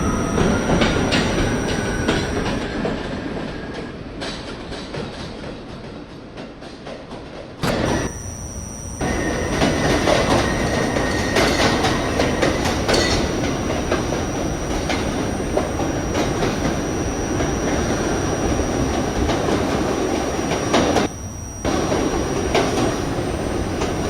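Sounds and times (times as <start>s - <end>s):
faint high wheel squeal: 0.0s - 3.8s, 7.6s - 24.0s
subway train wheel and track noise: 0.0s - 8.1s, 9.0s - 21.1s, 21.7s - 24.0s.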